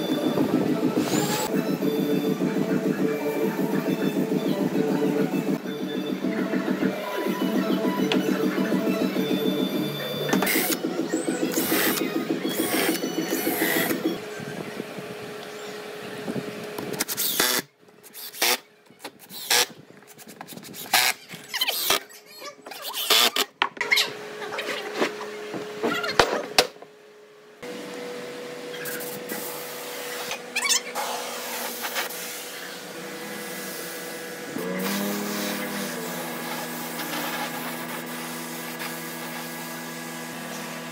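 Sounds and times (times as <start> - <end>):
workshop noise with faint tone: 0.0 - 27.0, 27.6 - 40.9.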